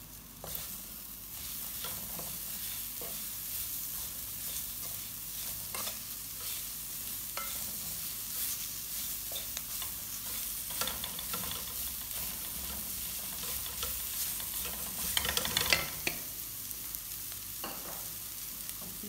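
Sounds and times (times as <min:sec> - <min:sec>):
vegetables sizzling in a wok: 0:00.0 - 0:19.0
wooden spatula scraping a pan: 0:00.4 - 0:16.2.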